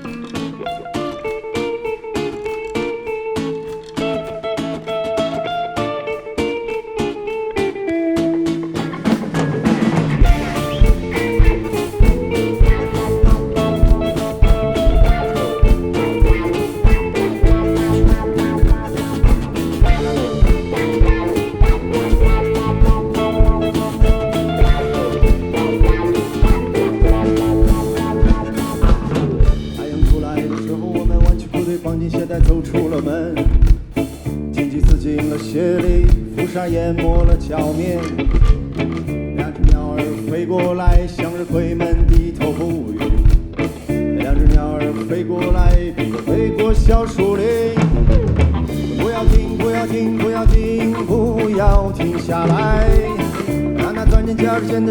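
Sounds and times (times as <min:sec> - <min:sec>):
drum kit beat: 0:00.0 - 0:54.9
electric guitar lines: 0:00.0 - 0:54.9.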